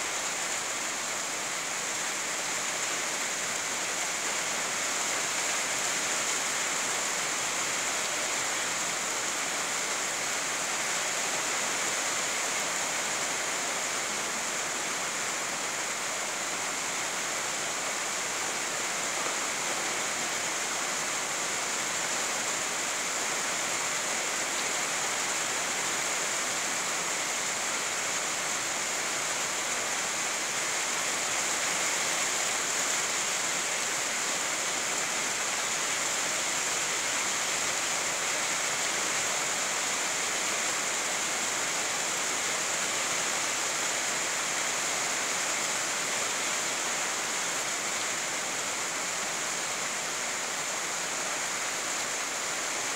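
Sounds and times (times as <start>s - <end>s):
steady rainfall: 0.0s - 52.9s.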